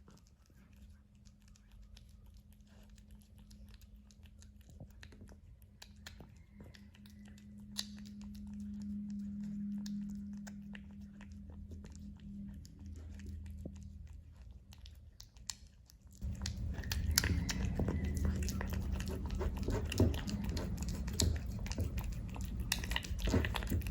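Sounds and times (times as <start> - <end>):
cat chewing wet food: 0.0 - 23.9
low steady hum: 0.0 - 23.9.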